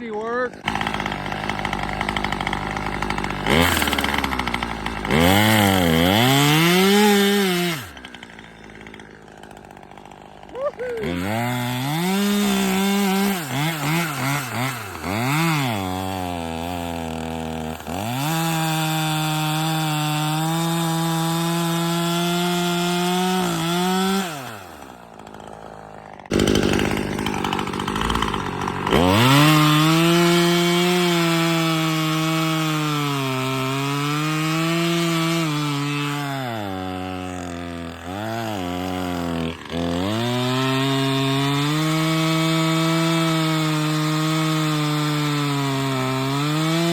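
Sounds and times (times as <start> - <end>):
chainsaw revving and cutting wood: 0.0 - 46.9.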